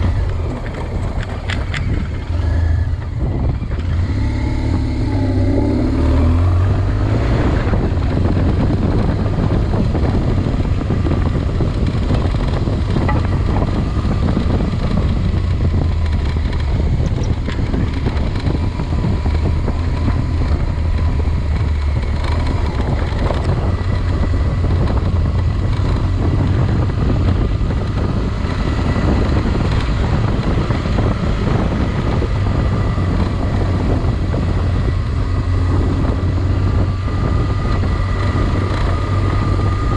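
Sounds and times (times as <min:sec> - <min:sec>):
vehicle engine running: 0:00.0 - 0:39.9
wind noise on microphone: 0:00.0 - 0:39.9.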